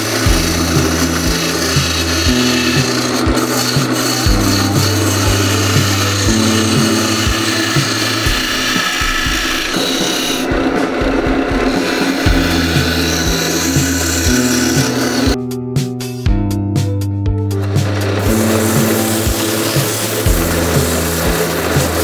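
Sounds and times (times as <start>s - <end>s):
lathe tool scraping wood: 0.0s - 15.4s, 17.6s - 22.0s
background music: 0.0s - 22.0s.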